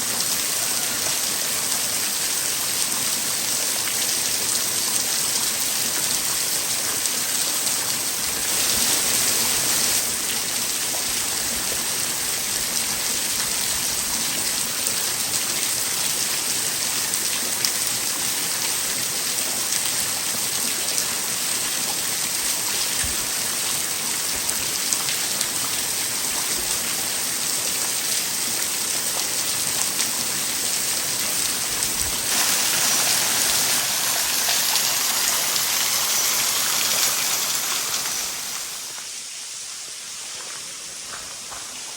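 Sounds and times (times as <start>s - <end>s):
falling water hissing: 0.0s - 16.2s, 20.3s - 41.9s.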